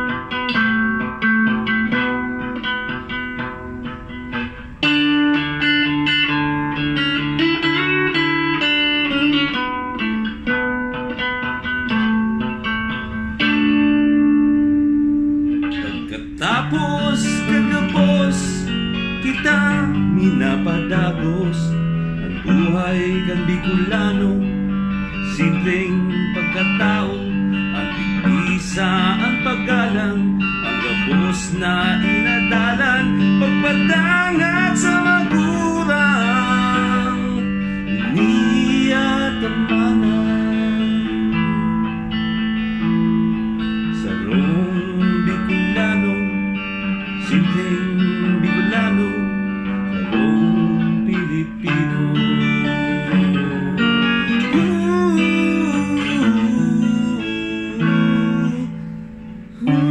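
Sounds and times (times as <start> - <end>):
electric guitar lead: 0.0 - 59.9.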